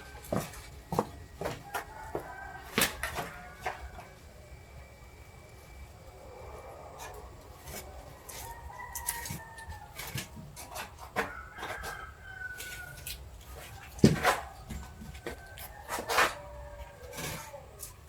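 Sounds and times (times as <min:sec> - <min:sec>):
rooster crowing: 0:01.4 - 0:04.3, 0:06.1 - 0:18.0.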